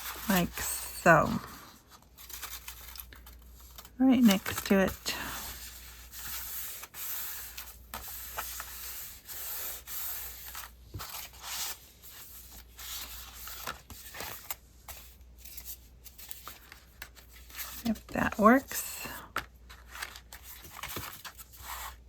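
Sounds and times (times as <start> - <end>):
paper rubbing and rustling: 0.0 - 18.1, 19.4 - 22.0.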